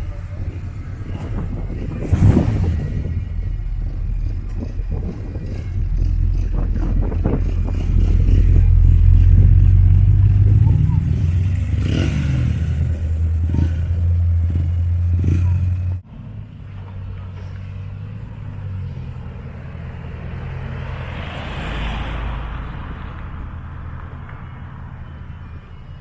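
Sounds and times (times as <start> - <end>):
car engine rumbling with throttle blips: 0.0 - 26.0.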